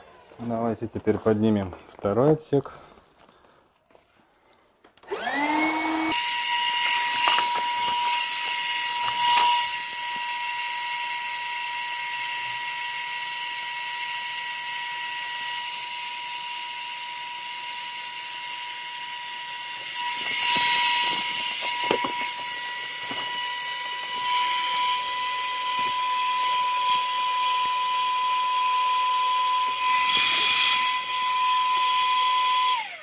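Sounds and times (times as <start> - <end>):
electric pump whining: 5.0 - 33.0.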